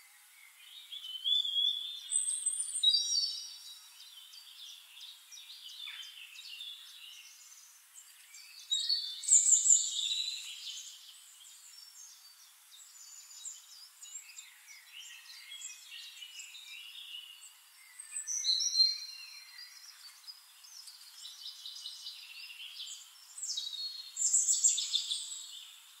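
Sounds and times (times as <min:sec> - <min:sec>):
songbirds singing and chirping: 0:00.0 - 0:26.0.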